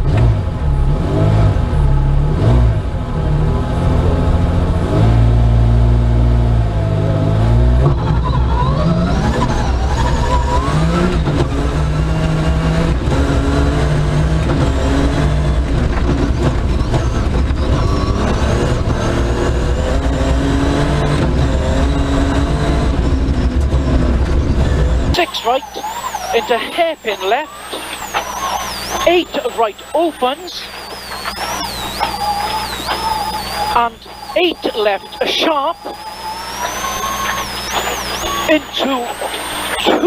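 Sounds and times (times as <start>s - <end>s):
car engine accelerating hard: 0.0s - 40.0s.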